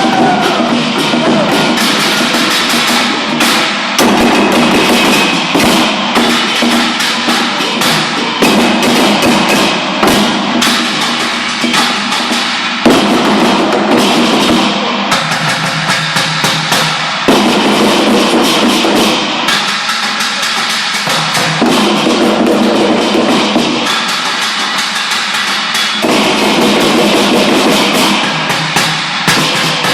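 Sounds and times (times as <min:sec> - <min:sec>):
rhythmic percussion music: 0:00.0 - 0:29.9.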